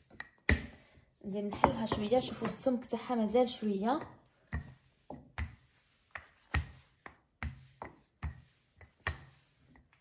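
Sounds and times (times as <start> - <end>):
rolling pin knocking on dough: 0.1 - 0.9, 1.5 - 2.8, 3.8 - 10.0.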